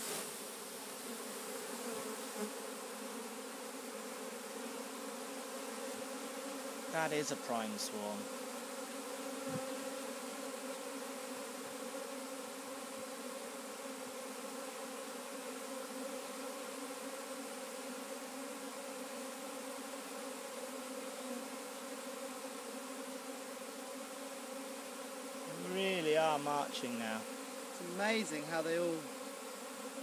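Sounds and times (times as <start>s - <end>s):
bee swarm buzzing: 0.0s - 30.0s.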